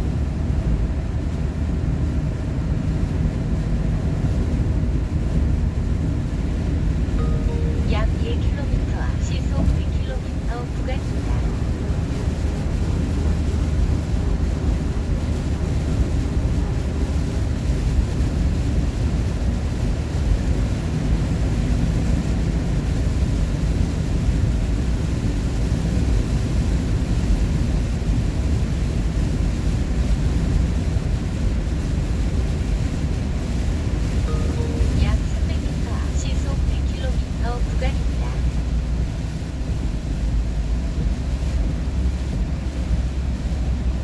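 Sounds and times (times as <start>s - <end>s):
vehicle engine and road noise: 0.0s - 7.2s, 7.8s - 44.0s.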